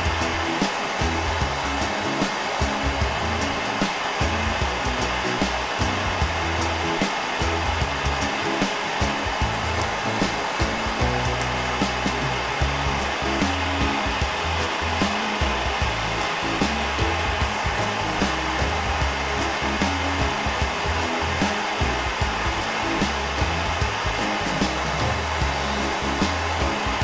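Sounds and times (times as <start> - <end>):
background music with beat: 0.0 - 27.0
burner flame hissing: 0.0 - 27.0.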